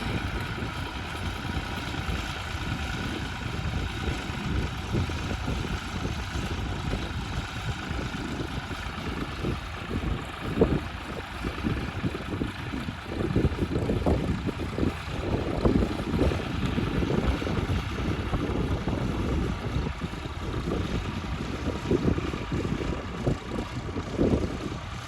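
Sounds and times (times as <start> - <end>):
heavy engine rumbling: 0.0 - 25.0.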